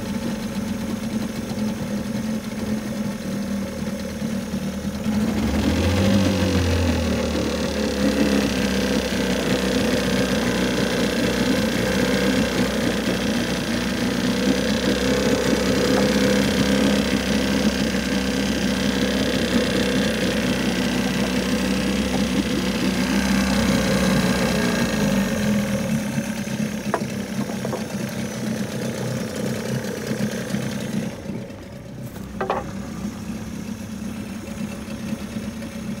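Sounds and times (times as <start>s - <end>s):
outboard motor idling: 0.0s - 36.0s.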